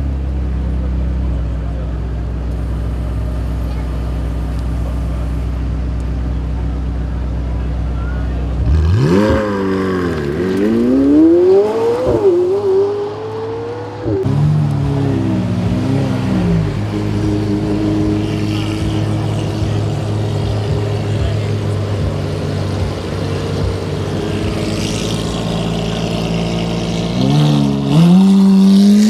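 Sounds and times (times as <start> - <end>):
car engine accelerating hard: 0.0 - 29.0
steady engine note: 2.5 - 11.5, 14.1 - 29.0.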